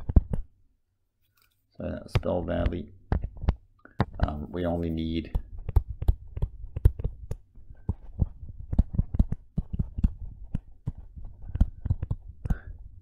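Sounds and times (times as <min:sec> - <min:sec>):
stylus tapping on tablet screen: 0:00.0 - 0:00.5, 0:02.1 - 0:13.0.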